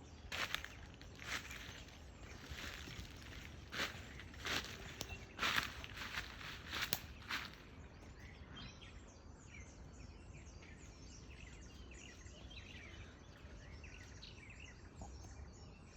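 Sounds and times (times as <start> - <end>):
birds chirping: 0.0 - 15.9
faint outdoor background: 0.0 - 15.9.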